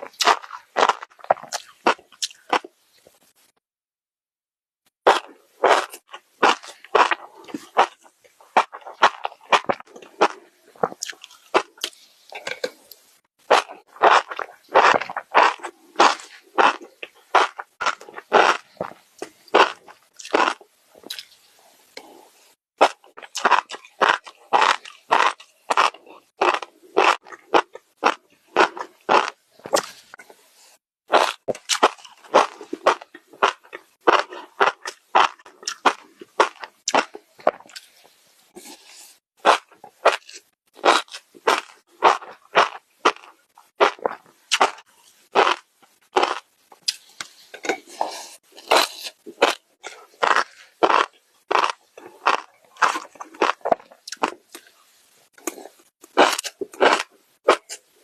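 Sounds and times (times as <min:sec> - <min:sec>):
chewing crunchy food: 0:00.0 - 0:03.3, 0:05.1 - 0:58.0.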